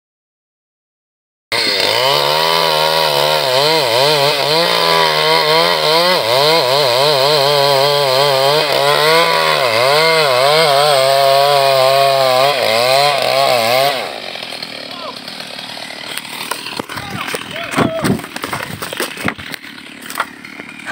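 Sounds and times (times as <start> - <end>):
chainsaw cutting tree trunk: 1.5 - 20.9.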